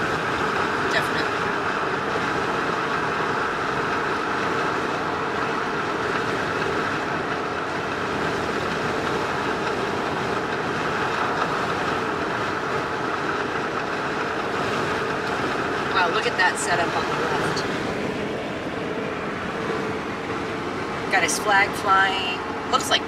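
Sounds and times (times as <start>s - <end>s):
road and engine noise in a cab: 0.0s - 23.0s
tyres rolling on asphalt: 0.0s - 23.0s.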